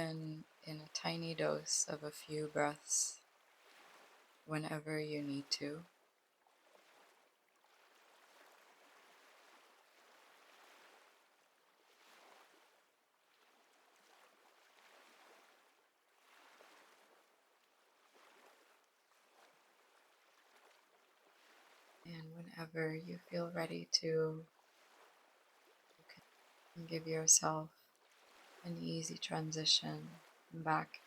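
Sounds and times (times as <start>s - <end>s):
faint ocean waves washing ashore: 0.0s - 31.0s.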